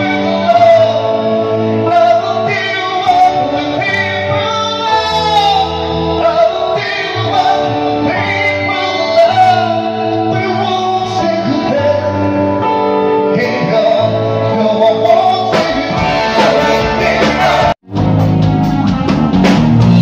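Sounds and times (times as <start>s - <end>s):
man singing into a microphone: 0.0s - 17.8s
electric guitar: 0.0s - 20.0s.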